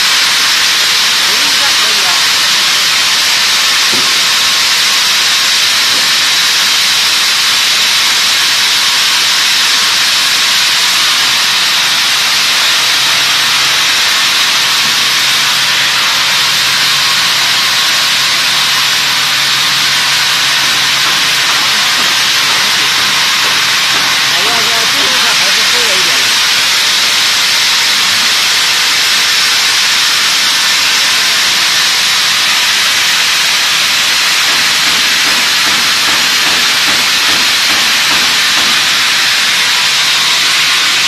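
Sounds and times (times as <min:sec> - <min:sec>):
sawmill machinery hiss: 0:00.0 - 0:41.0.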